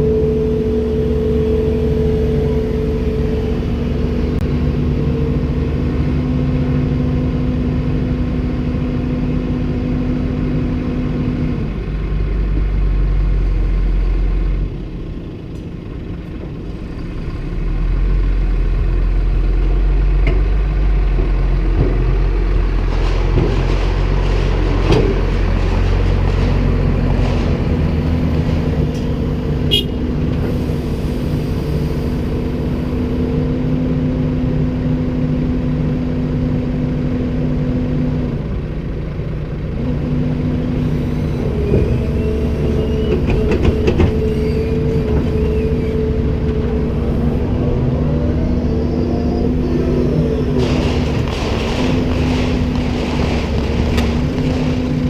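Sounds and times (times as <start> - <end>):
excavator diesel engine working: 0.0 - 55.0.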